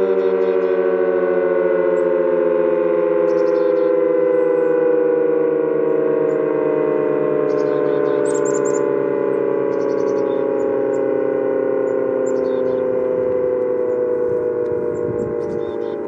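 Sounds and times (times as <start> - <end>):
dual-tone warning siren: 0.0 - 16.0.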